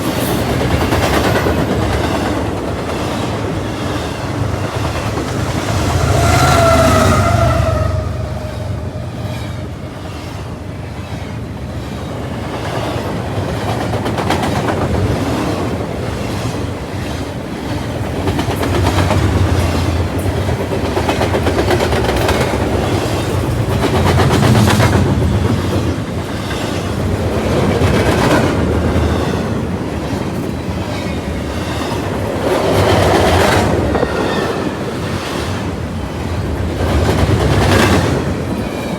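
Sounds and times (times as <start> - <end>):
train rumble: 0.0 - 38.9
train wheels clickety-clack: 0.0 - 38.9.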